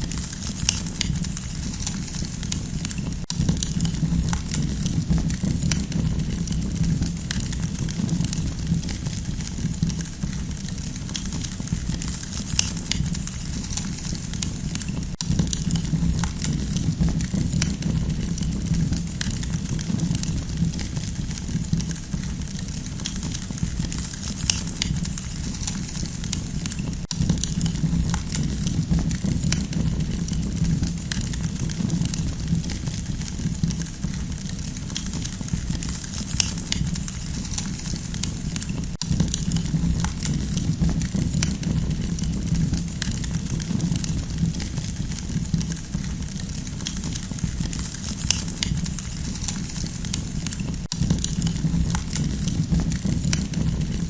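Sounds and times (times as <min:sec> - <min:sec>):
low fire rumble: 0:00.0 - 0:54.0
wood crackling in campfire: 0:00.0 - 0:54.0.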